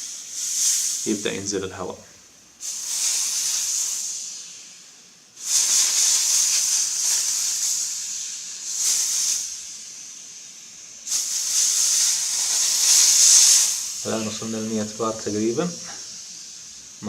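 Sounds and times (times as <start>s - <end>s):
high-pressure air hissing: 0.0s - 17.0s.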